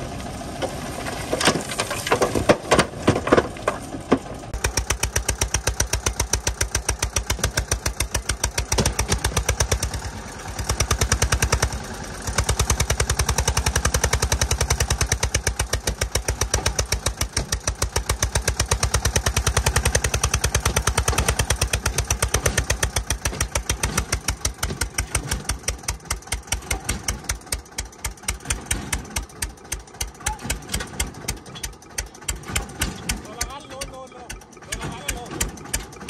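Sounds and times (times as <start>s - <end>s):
tractor diesel engine chugging: 0.0s - 36.0s.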